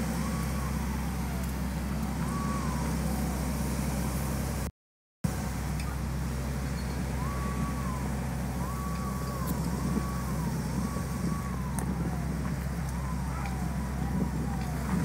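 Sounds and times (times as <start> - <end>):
emergency vehicle siren: 0.0 - 4.7, 5.3 - 15.0
road traffic rumble: 0.0 - 15.0.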